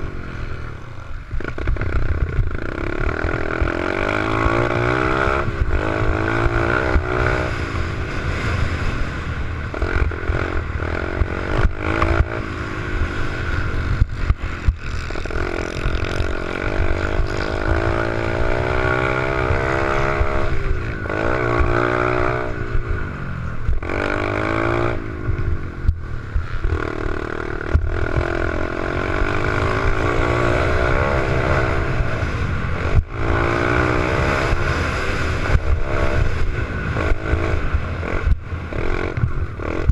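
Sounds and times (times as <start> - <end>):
pit bike engine revving: 0.0 - 39.9
steady low rumble: 0.0 - 39.9.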